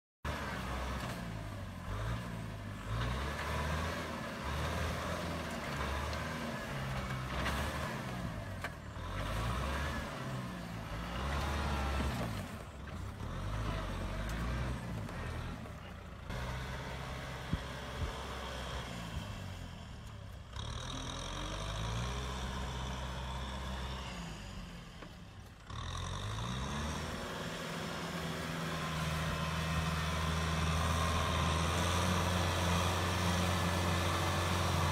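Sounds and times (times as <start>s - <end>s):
tractor diesel engine revving: 0.3s - 34.9s.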